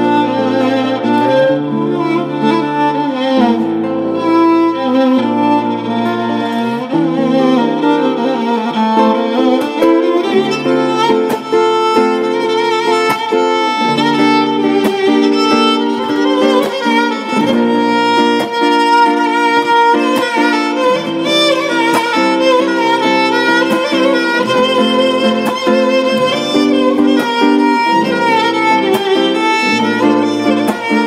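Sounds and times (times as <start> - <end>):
solo violin melody: 0.0 - 31.0.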